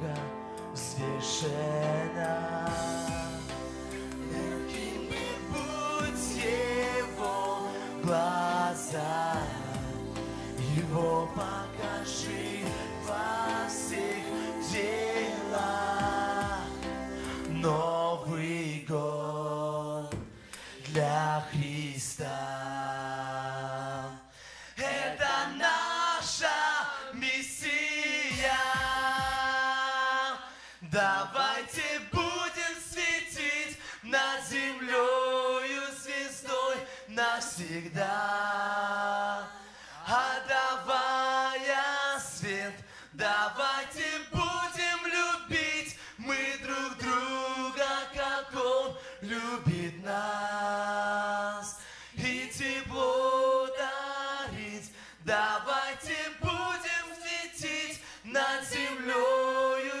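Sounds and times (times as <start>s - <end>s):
group singing a cappella: 0.0s - 60.0s.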